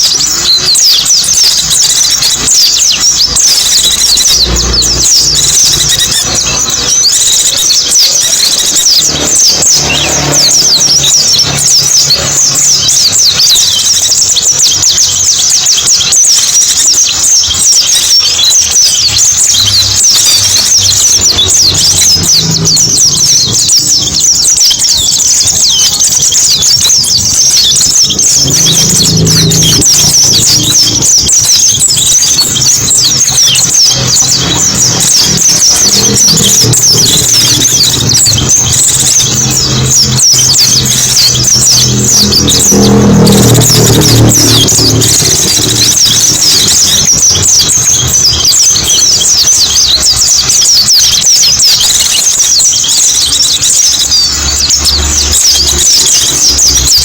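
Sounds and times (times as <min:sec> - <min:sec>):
bird twittering: 0:00.0 - 0:57.0.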